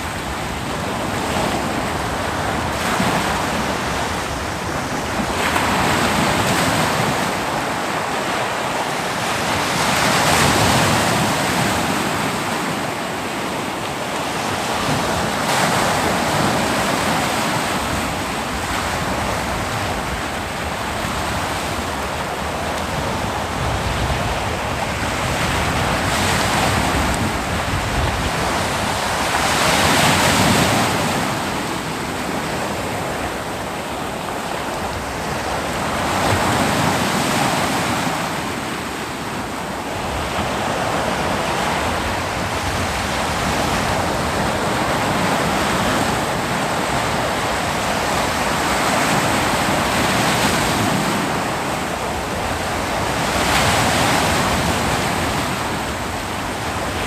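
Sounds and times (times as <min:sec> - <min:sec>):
ocean waves crashing on beach: 0:00.0 - 0:57.0
wind on microphone: 0:00.0 - 0:57.0.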